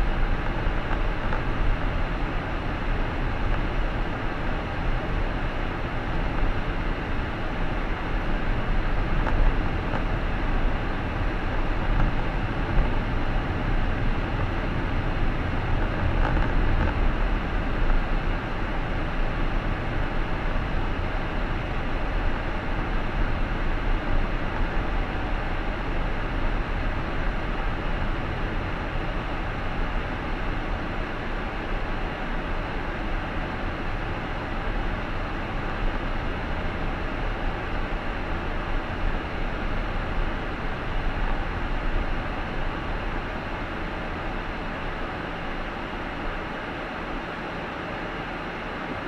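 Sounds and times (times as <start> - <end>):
low engine hum: 0.0 - 49.0
road and tyre noise: 0.0 - 49.0.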